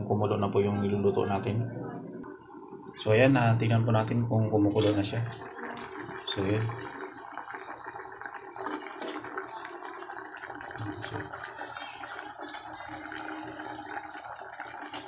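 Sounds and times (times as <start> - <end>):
broth simmering in a pot: 2.1 - 15.0.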